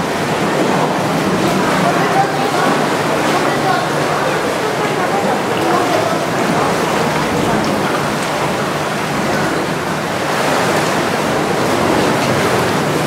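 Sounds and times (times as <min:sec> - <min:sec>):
sea water rushing against hull: 0:00.0 - 0:13.0.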